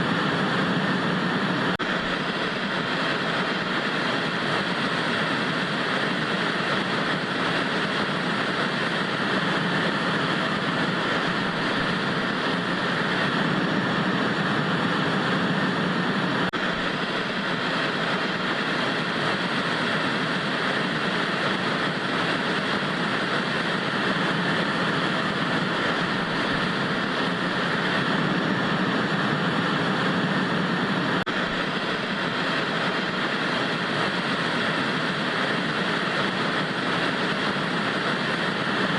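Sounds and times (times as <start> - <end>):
tv static hiss: 0.0 - 38.9.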